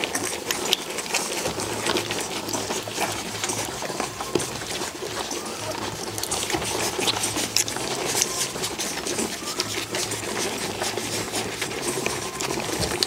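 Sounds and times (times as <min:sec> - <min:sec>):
puppies suckling: 0:00.0 - 0:13.0.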